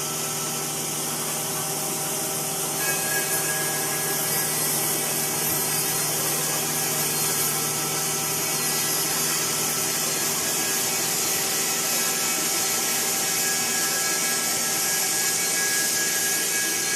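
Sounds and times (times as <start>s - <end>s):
router spindle whining: 0.0s - 16.9s.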